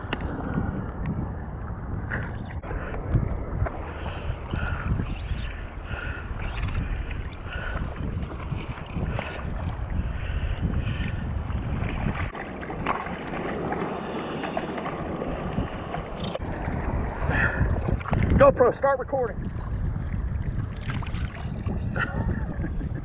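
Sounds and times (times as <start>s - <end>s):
wind buffeting microphone: 0.0s - 23.0s
surf washing: 2.7s - 23.0s.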